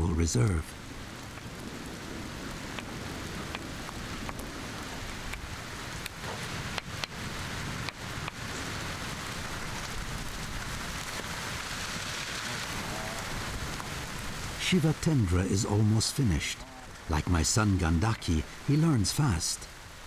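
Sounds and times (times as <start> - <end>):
rain ticking and tapping: 0.0 - 20.0
steady rain falling: 0.0 - 20.0.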